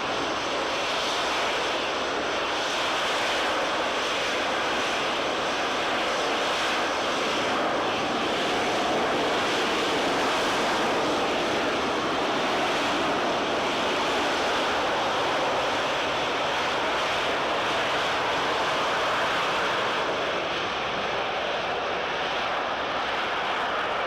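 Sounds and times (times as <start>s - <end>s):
aircraft engine noise: 0.0s - 24.0s.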